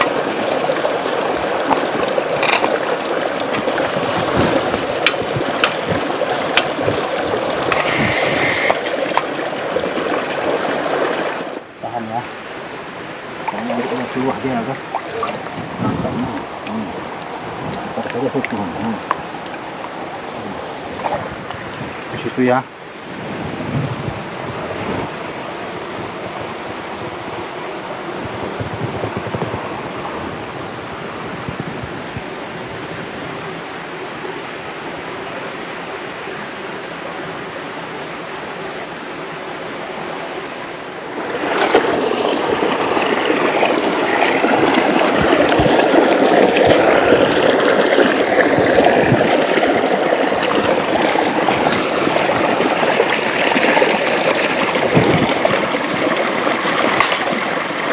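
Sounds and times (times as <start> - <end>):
river rushing over rocks: 0.0 - 57.9.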